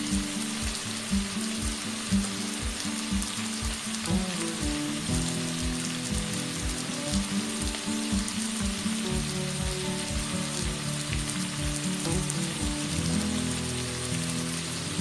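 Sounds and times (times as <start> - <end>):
background music with low beat: 0.0 - 15.0
food sizzling in a wok: 0.0 - 15.0.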